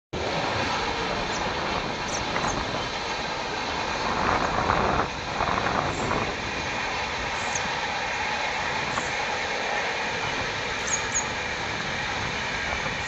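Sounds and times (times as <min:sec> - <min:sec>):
river water rushing: 0:00.2 - 0:13.0.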